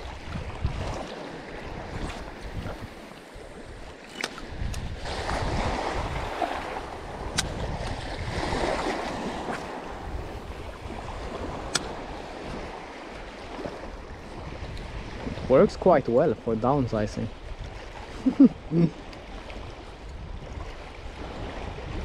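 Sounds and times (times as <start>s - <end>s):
small waves splashing on shore: 0.0s - 22.0s
wind rumbling on microphone: 0.0s - 22.0s.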